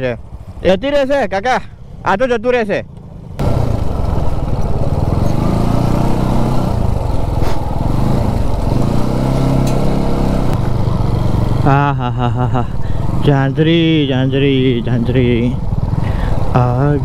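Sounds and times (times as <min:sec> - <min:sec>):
motorcycle engine running: 0:02.8 - 0:17.0.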